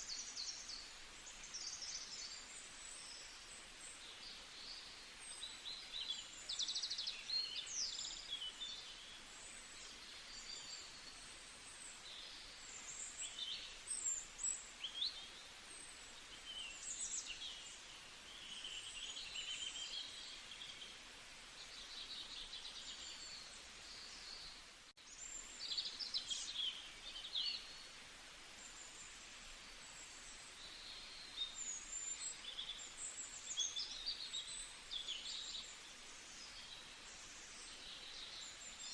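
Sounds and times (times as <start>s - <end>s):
small birds chirping and trilling: 0.0s - 38.9s
steady background hiss: 0.0s - 38.9s.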